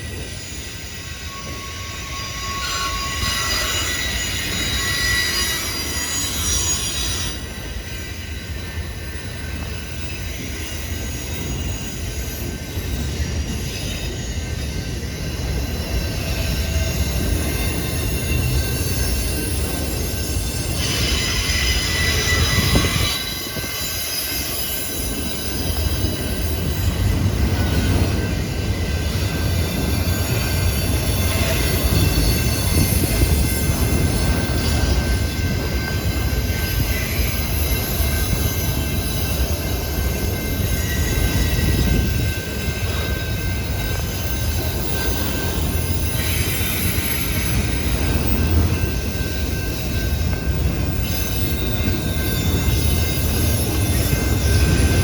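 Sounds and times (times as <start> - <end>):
steel wheel squeal: 0.0 - 55.0
train rumbling past: 0.0 - 55.0.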